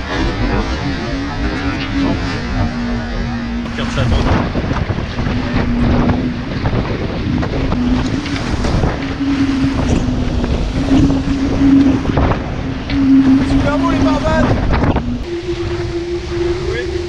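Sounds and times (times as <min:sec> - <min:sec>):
steady hum: 0:00.0 - 0:17.0
water rushing past hull: 0:00.0 - 0:17.0
wind buffeting microphone: 0:00.0 - 0:17.0.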